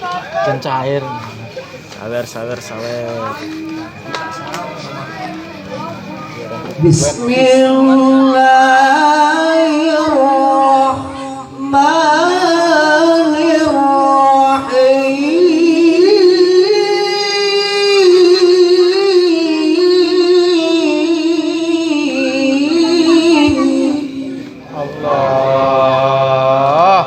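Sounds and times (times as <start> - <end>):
person chanting melodically: 3.2 - 27.0.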